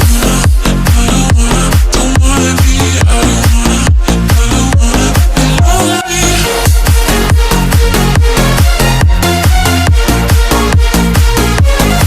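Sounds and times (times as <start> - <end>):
kick drum beat: 0.0 - 5.8, 6.7 - 12.0.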